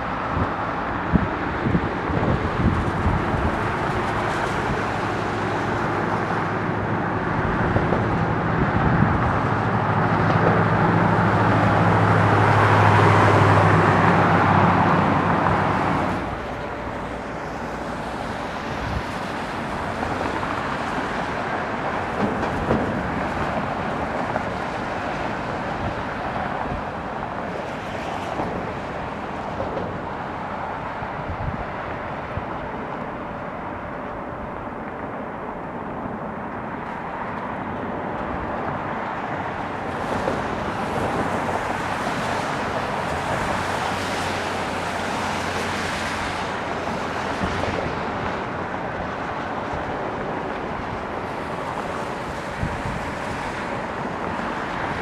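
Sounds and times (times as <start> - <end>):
jet engines roaring: 0.0 - 55.0
traffic: 0.0 - 55.0
wind: 0.0 - 55.0.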